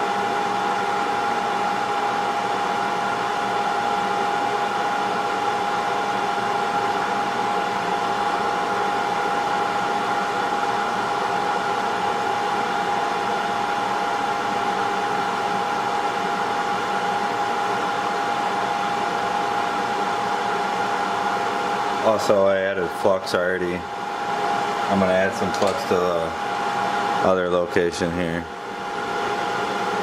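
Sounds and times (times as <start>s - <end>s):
hot-air blower whining: 0.0s - 30.0s.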